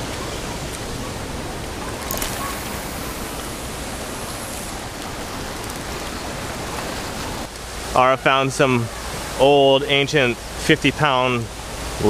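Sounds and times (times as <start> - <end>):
surf: 0.0 - 12.0
wind: 0.0 - 12.0.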